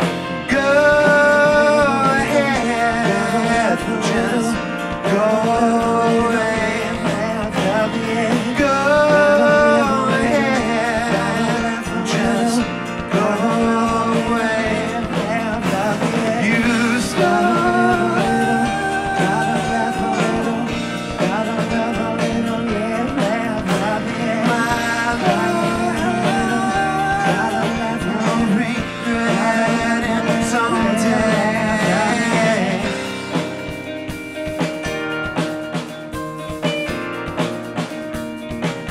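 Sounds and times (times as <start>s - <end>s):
man singing: 0.0s - 33.6s
bass guitar: 0.0s - 38.9s
drum kit: 0.0s - 38.9s
electric guitar: 0.0s - 38.9s
stage piano: 0.0s - 38.9s.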